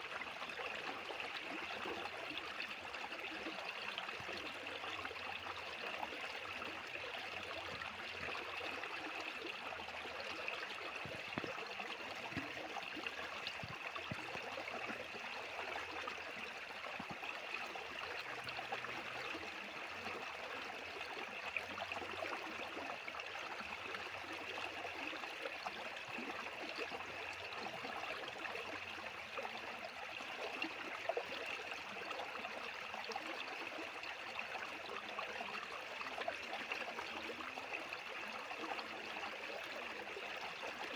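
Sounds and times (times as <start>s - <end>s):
water splashes and gurgles: 0.2s - 40.9s.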